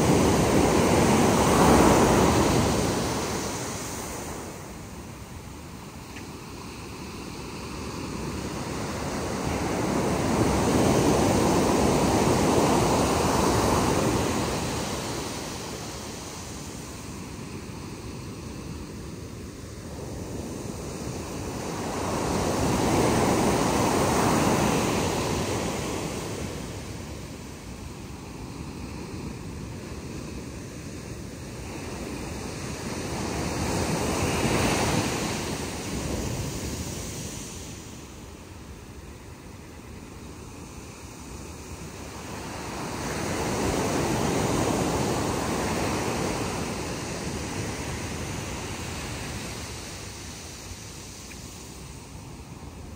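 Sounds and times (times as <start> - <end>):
waves breaking on a beach: 0.0 - 52.9.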